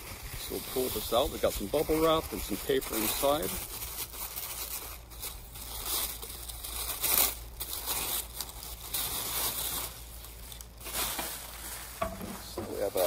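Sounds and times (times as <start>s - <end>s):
packing wrap crinkling: 0.0s - 13.0s.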